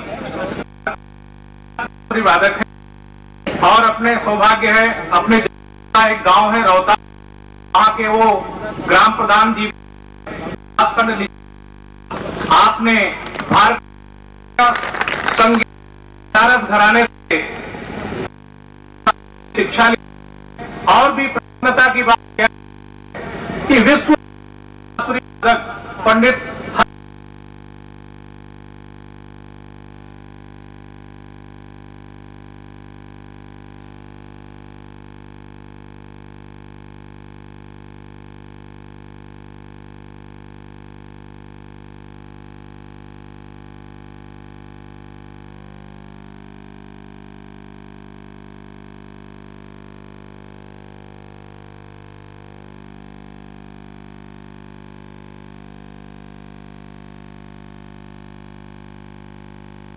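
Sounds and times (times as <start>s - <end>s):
electrical hum through speakers: 0.0s - 59.9s.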